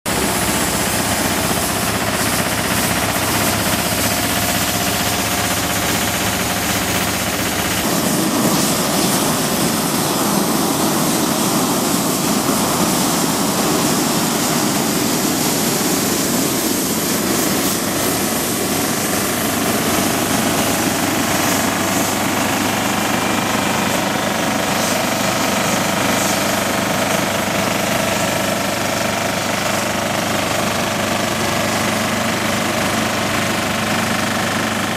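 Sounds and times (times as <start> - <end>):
machine engine chattering: 0.1 - 34.9.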